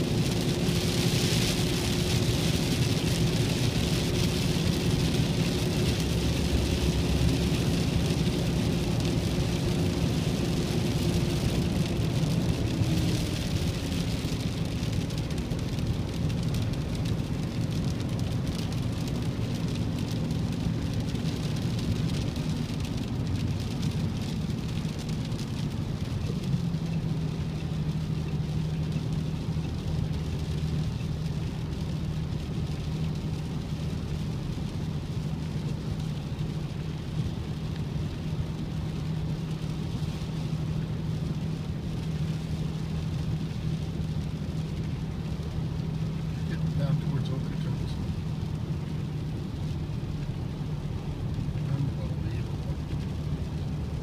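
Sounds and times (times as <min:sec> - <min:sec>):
car engine hum: 0:00.0 - 0:54.0
rain hissing against windshield: 0:00.0 - 0:54.0
road noise: 0:00.0 - 0:54.0.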